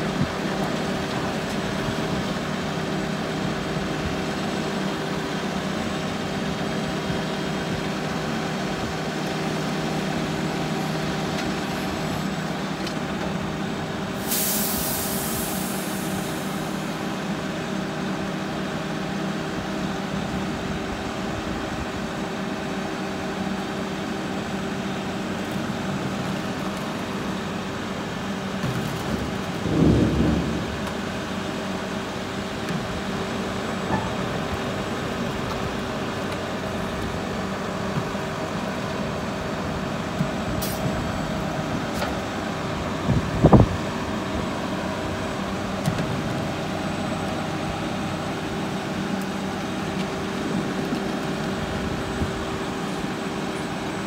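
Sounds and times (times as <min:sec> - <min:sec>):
garbage truck engine idling: 0:00.0 - 0:54.0.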